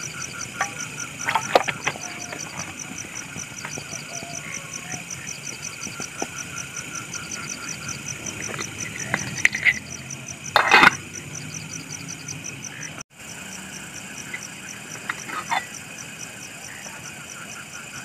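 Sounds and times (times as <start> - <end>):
frog or insect chirping: 0.0 - 18.0.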